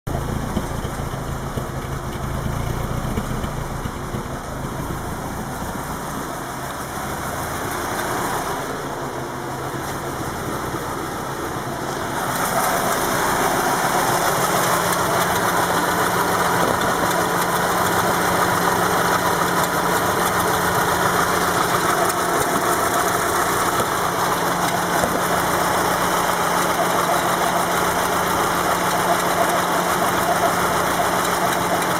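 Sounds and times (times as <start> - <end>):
car engine idling unevenly: 0.1 - 31.9.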